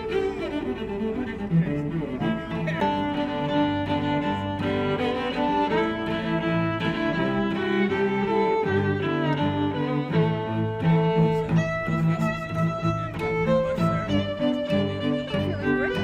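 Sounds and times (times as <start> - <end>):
bowed strings melody: 0.0 - 16.0.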